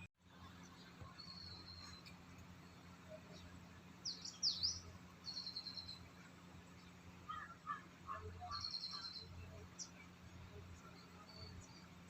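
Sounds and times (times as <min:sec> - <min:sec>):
faint low hum: 0:00.0 - 0:12.0
small birds chirping and trilling: 0:00.4 - 0:12.0.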